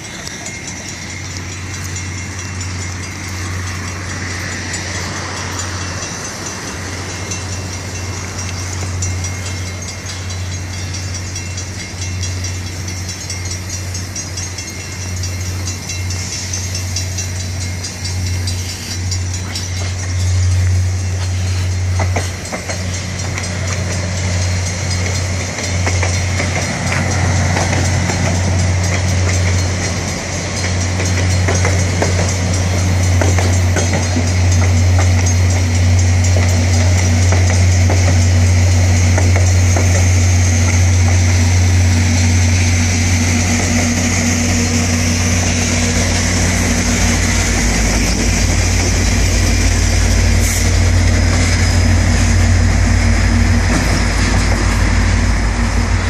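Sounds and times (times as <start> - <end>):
level crossing warning bell: 0.0 - 56.0
train rolling rumble: 0.0 - 56.0.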